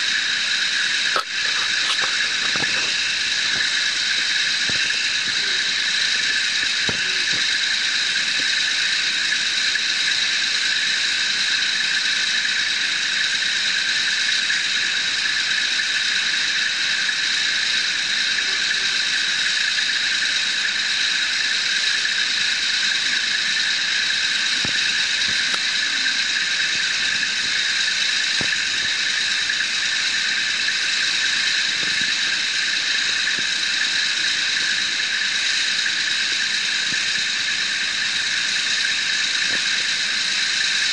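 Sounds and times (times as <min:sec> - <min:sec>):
constant hiss: 0:00.0 - 0:40.9.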